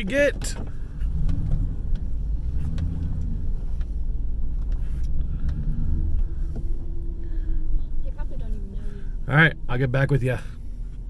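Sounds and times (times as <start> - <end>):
vehicle engine low rumble: 0.0 - 11.0.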